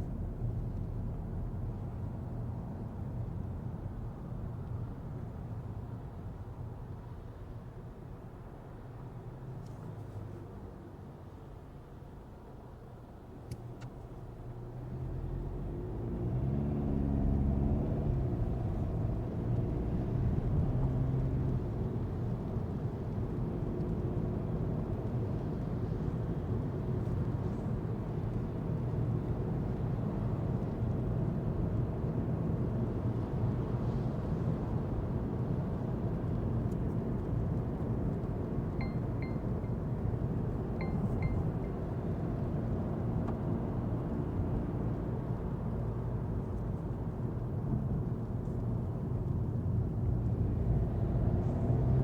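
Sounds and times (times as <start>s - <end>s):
diesel car engine: 0.0s - 52.0s
road noise: 0.0s - 52.0s.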